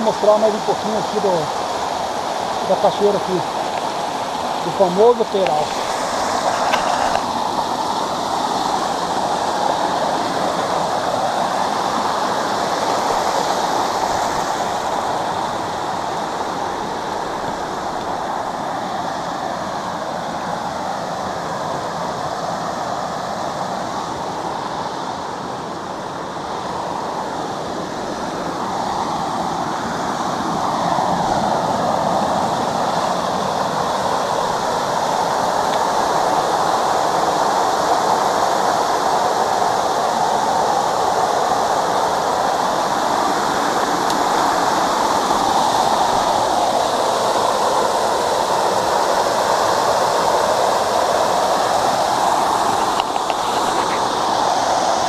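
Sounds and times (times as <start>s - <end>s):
waterfall rushing over rock: 0.0s - 55.0s.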